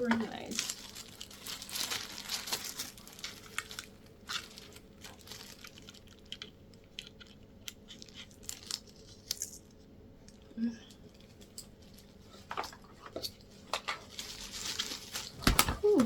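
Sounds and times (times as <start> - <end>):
plastic packaging crinkling: 0.0 - 10.4, 11.0 - 16.0.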